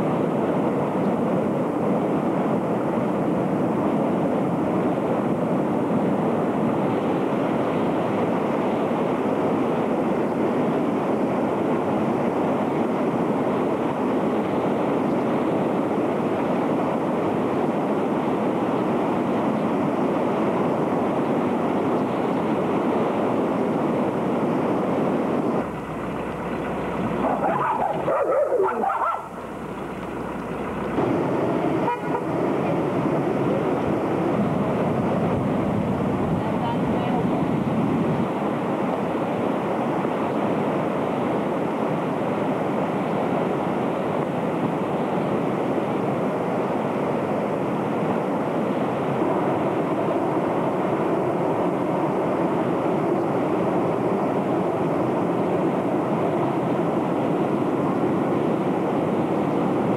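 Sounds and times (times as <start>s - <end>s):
floodwater rushing: 11.4s - 59.9s.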